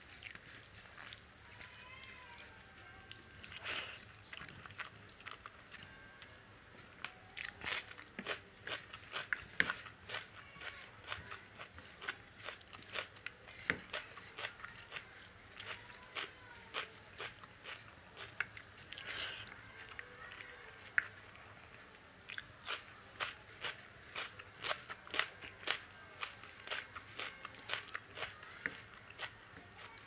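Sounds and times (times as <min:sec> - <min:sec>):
person chewing food: 0:00.0 - 0:01.6, 0:02.6 - 0:06.2, 0:07.3 - 0:21.2, 0:22.2 - 0:30.0.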